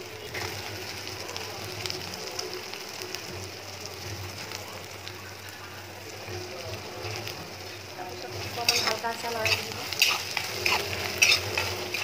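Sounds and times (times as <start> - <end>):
onions frying in hot oil: 0.0 - 12.0.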